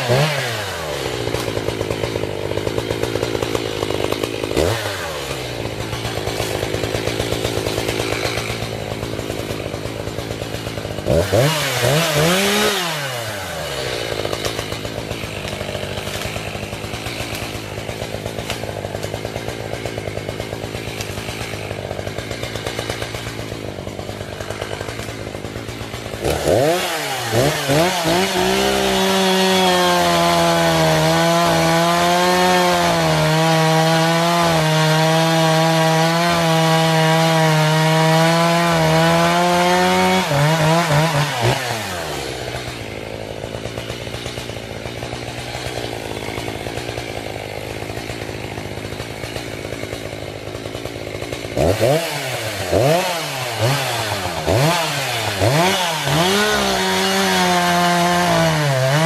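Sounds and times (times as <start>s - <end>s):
chainsaw idling and revving: 0.0s - 59.0s.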